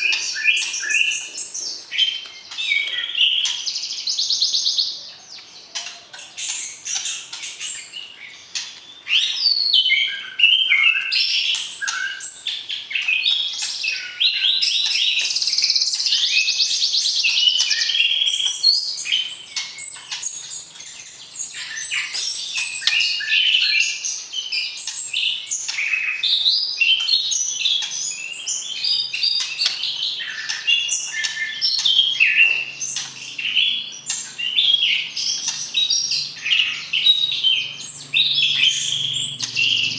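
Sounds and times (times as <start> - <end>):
bird whistles and trills: 0.0 - 39.9.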